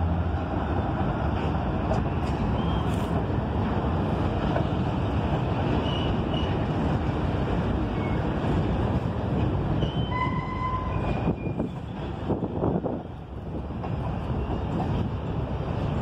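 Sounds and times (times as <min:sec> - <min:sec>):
steel train wheels rumbling on rails: 0:00.0 - 0:16.0.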